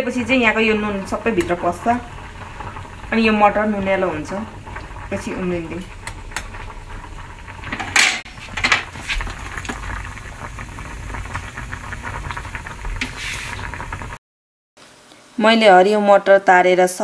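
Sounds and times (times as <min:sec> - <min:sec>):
water boiling in saucepan: 0:00.0 - 0:14.2.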